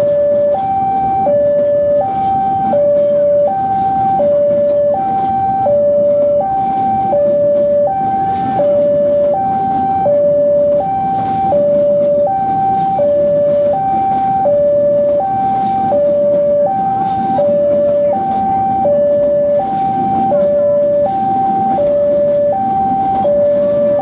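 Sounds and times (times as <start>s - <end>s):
train coaches rumbling on rails: 0.0s - 24.0s
two-tone crossing alarm: 0.0s - 24.0s.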